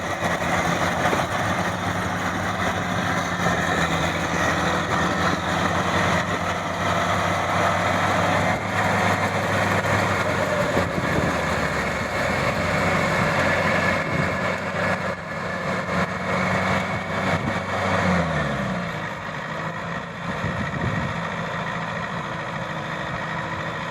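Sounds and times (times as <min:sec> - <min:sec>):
combine harvester diesel engine: 0:00.0 - 0:23.9.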